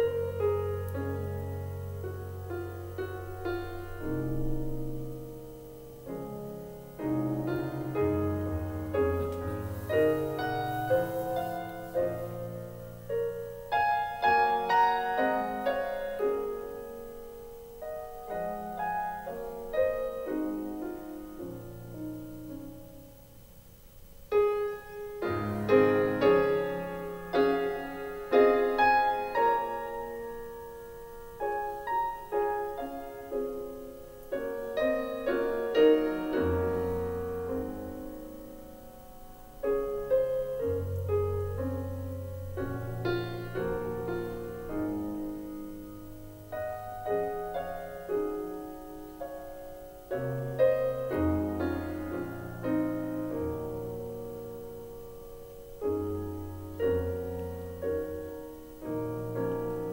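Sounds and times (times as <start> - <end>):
slow piano music: 0.0 - 59.9.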